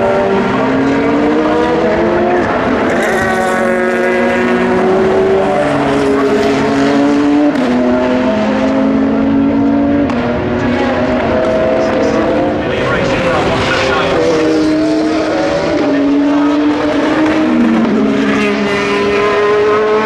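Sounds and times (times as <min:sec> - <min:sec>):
race car engines accelerating: 0:00.0 - 0:20.0.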